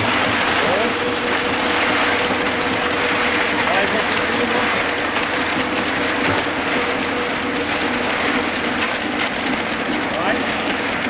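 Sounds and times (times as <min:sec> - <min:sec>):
wet concrete gravel rushing out: 0:00.0 - 0:11.0.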